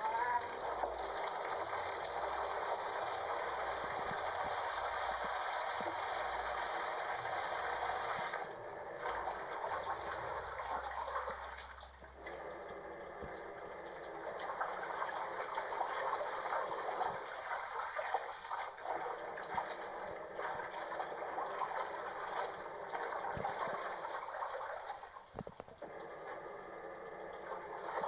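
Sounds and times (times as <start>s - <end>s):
running water gushing and splashing: 0.0s - 26.2s, 27.3s - 28.0s.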